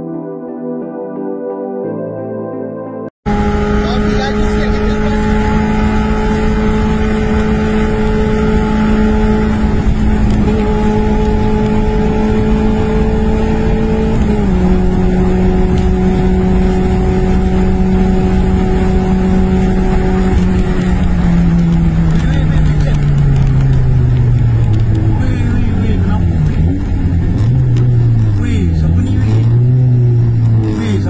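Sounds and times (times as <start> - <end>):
car engine droning: 3.3 - 31.0
tyre and road rumble: 3.4 - 31.0.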